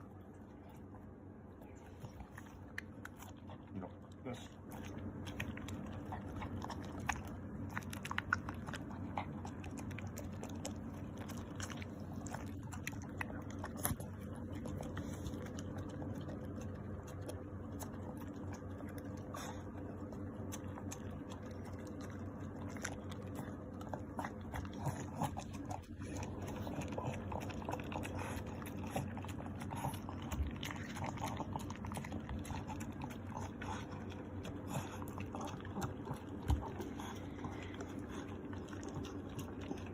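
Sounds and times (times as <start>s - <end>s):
dog chewing and smacking: 0.0s - 39.9s
steady background hum: 0.0s - 39.9s.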